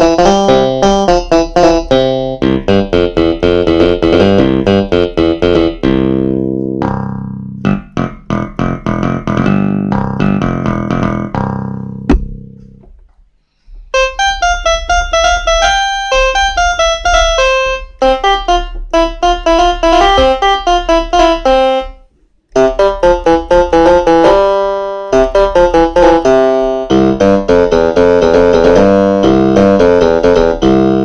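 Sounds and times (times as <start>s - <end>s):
keyboard playing notes and chords: 0.0s - 12.8s, 14.0s - 31.0s.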